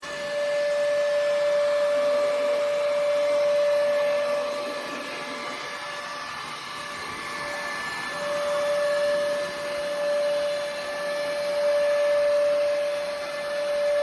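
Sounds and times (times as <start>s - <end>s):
robot vacuum cleaner running: 0.0s - 14.0s.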